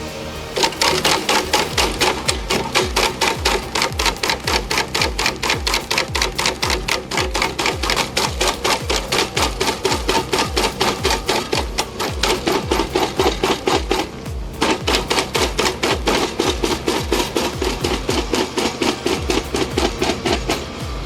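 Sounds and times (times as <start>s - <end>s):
fast clicking percussion: 0.0s - 21.0s
low kick drum: 0.0s - 21.0s
music with driving beat: 0.0s - 21.0s.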